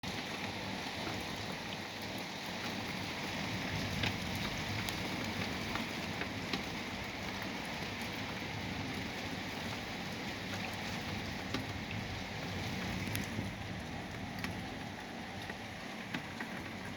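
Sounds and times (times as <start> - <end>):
rain: 0.0 - 16.9
raindrops ticking close by: 0.1 - 16.9.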